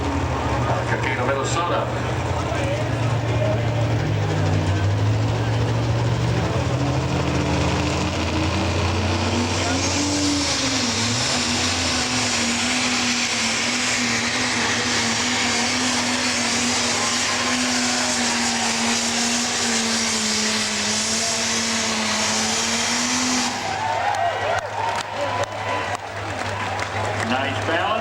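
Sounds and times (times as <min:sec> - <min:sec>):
diesel engine at full load: 0:00.0 - 0:28.0.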